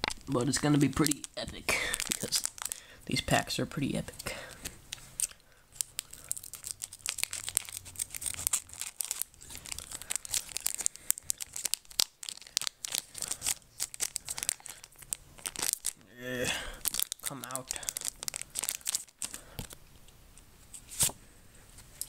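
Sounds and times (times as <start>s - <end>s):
foil wrapper tearing and crinkling: 0.0s - 3.2s, 4.4s - 19.8s.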